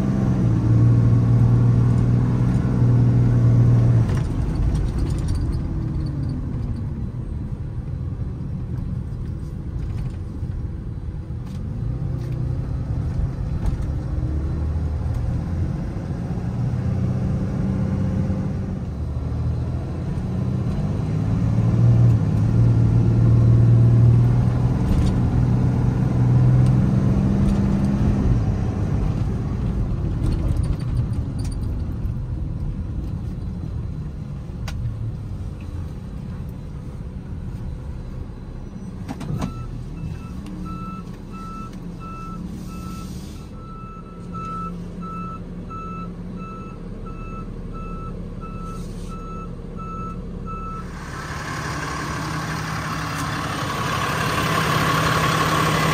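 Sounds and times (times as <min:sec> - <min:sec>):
diesel truck engine from cab: 0:00.0 - 0:55.9.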